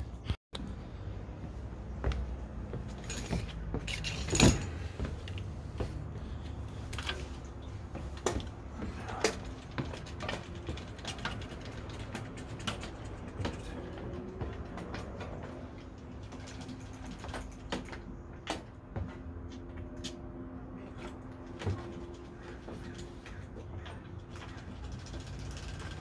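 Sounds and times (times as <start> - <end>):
knocks and rattles of bicycle: 0.1 - 26.0.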